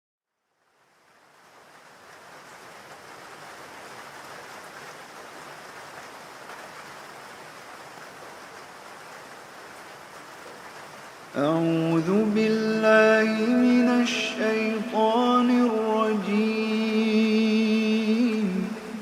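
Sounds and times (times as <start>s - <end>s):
steady rain falling: 0.3s - 19.0s.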